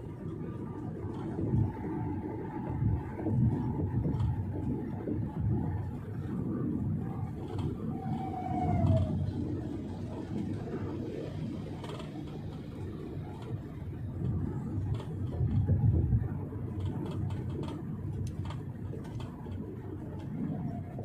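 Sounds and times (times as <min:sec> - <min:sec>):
engine and road noise: 0:00.0 - 0:21.0.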